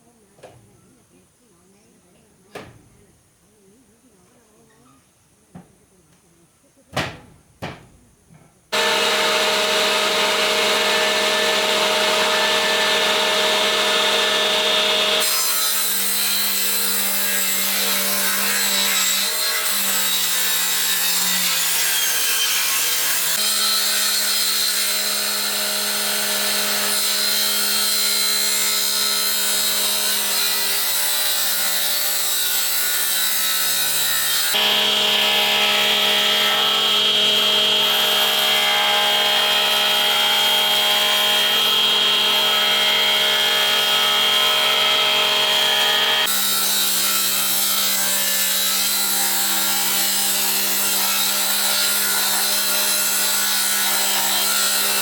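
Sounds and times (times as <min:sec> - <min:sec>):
power tool cutting wood: 0:08.8 - 0:55.0.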